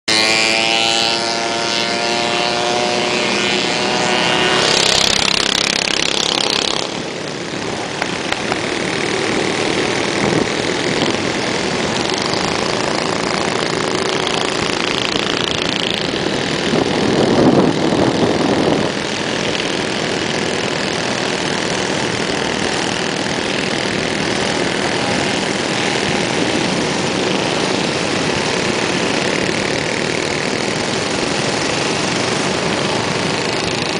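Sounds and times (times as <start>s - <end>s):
small engines droning: 0.1s - 33.9s.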